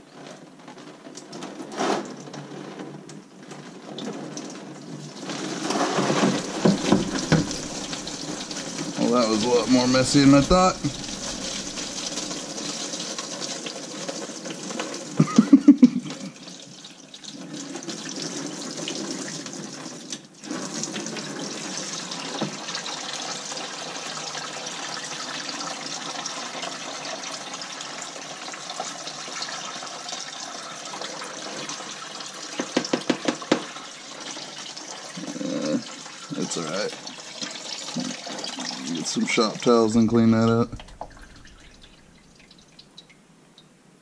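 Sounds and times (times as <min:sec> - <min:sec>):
coolant pouring into pan: 0:01.0 - 0:43.2.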